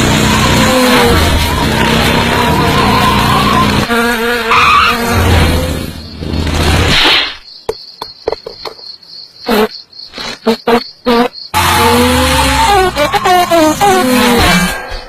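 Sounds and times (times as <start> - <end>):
loud insect buzz: 2.0 - 6.8, 7.5 - 15.0.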